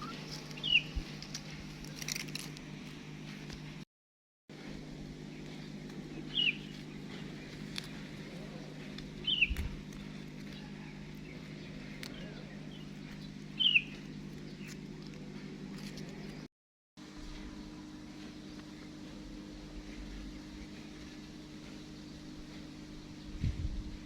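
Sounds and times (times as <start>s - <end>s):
steady low hum: 0.0s - 3.8s, 4.5s - 24.0s.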